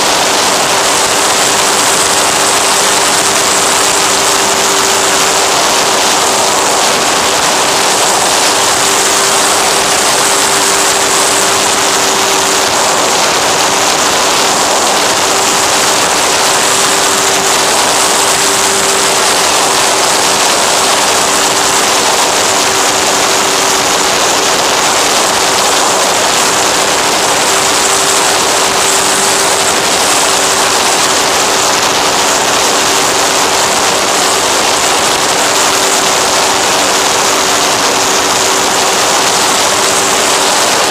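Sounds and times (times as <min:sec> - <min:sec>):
electric propeller motor hum: 0:00.0 - 0:40.9
wind rushing over microphone: 0:00.0 - 0:40.9.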